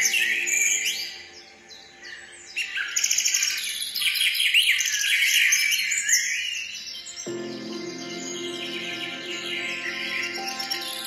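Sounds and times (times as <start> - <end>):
small birds chirping and trilling: 0.0 - 11.0.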